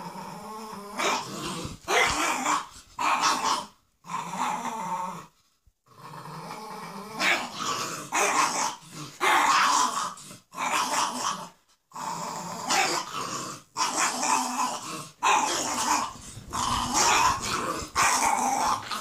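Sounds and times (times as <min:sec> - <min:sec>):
dogs play-growling: 0:00.0 - 0:19.0.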